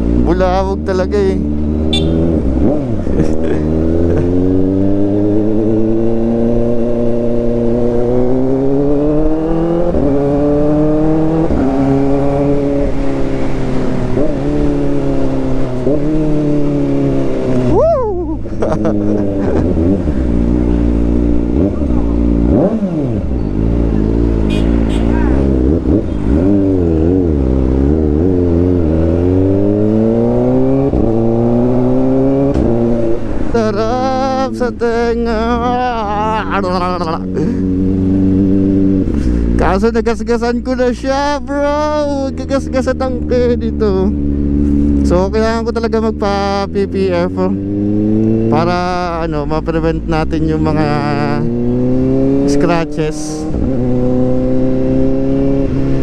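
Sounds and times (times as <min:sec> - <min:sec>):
motorcycle engine revving loudly: 0:00.0 - 0:17.7, 0:18.8 - 0:56.0.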